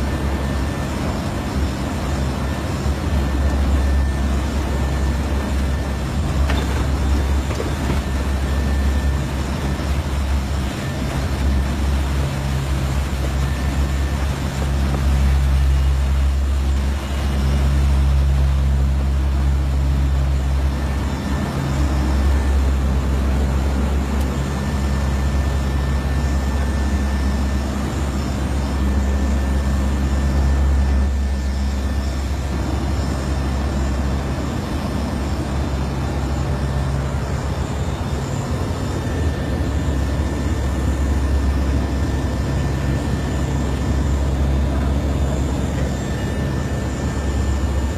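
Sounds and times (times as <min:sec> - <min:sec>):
aircraft engines droning: 0:00.0 - 0:47.9.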